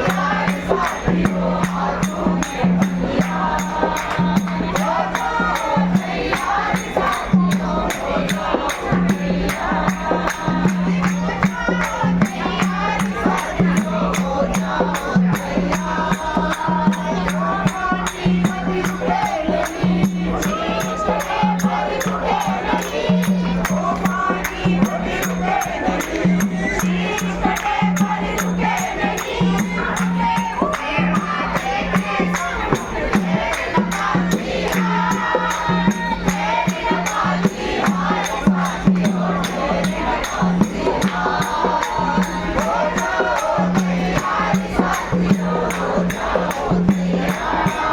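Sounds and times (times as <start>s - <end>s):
group of voices chanting: 0.0s - 47.9s
jingling percussion: 0.0s - 47.9s.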